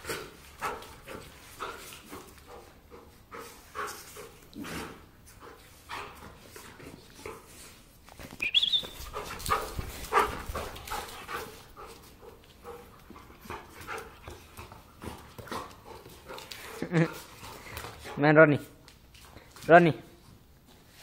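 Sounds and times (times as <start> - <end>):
dogs play-fighting noises: 0.0 - 18.2.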